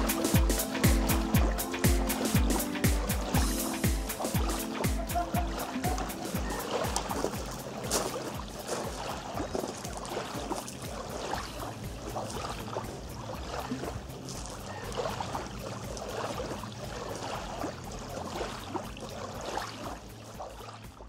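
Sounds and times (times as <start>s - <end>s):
small waves lapping on shore: 0.0s - 21.0s
soft music: 0.0s - 21.0s.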